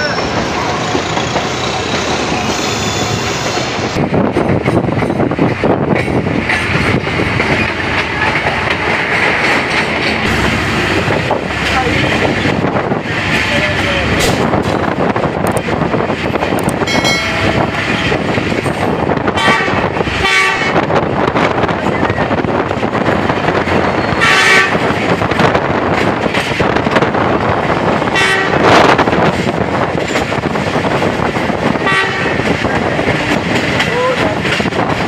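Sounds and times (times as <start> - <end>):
train rolling noise: 0.0 - 35.0.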